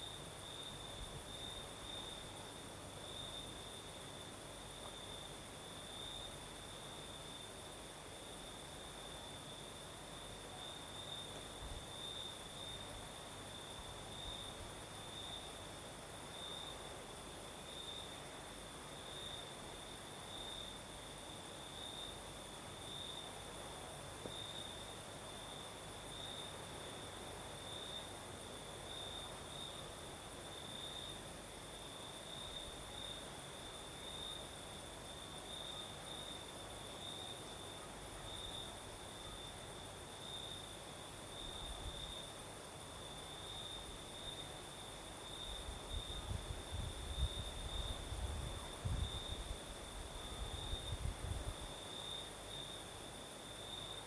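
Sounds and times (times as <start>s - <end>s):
crickets chirring: 0.0s - 54.0s
high insect hiss: 0.0s - 54.0s.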